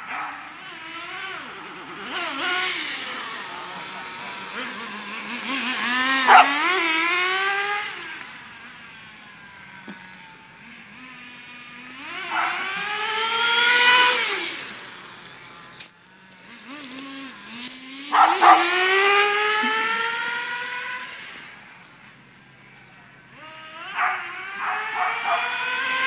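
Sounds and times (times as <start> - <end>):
small glow engine revving: 0.0 - 26.0.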